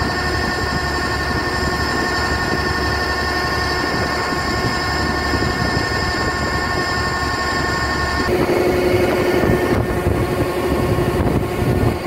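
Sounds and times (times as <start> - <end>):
auger mechanical whine: 0.0 - 12.0
combine harvester engine rumble: 0.0 - 12.0.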